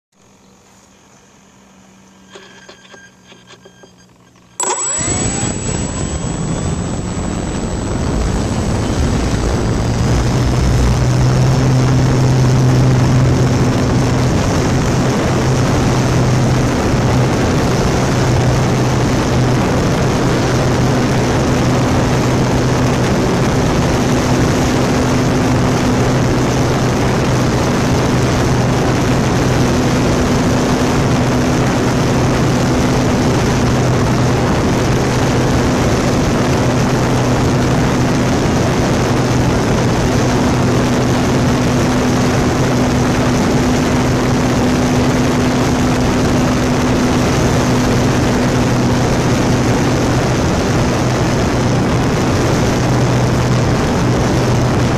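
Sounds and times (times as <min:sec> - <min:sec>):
electric motor whine: 0:00.8 - 0:51.0
propeller and rushing air: 0:01.4 - 0:54.9.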